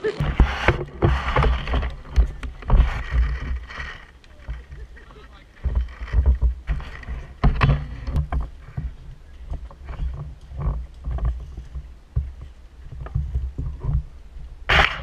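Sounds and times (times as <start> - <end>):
knocks and rustles of gear: 0.0 - 15.0.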